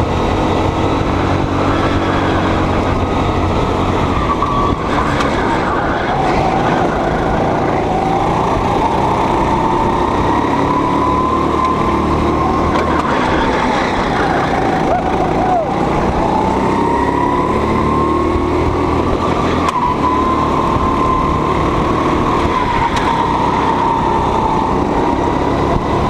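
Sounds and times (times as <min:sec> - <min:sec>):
go-kart engine running: 0:00.0 - 0:26.0.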